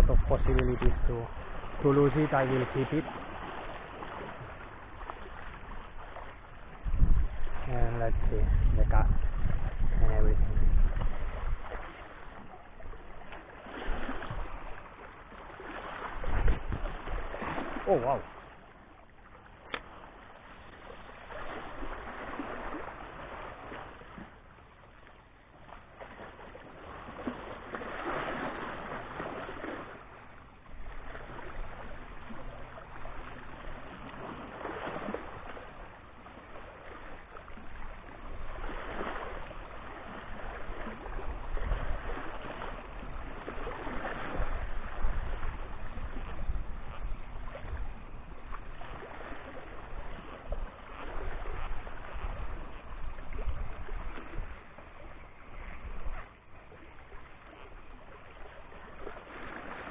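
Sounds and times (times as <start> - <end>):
small waves lapping over rocks: 0.0 - 59.9.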